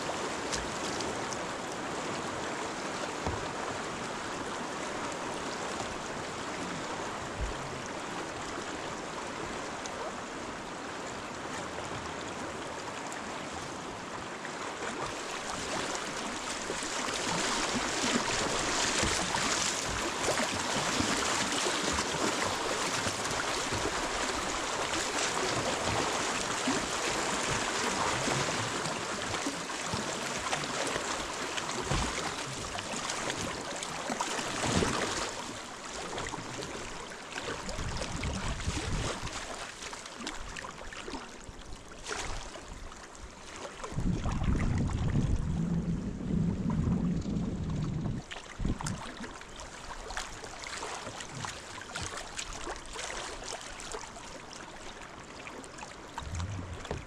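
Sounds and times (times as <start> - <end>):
river water rushing and splashing: 0.0 - 45.3, 48.2 - 57.0.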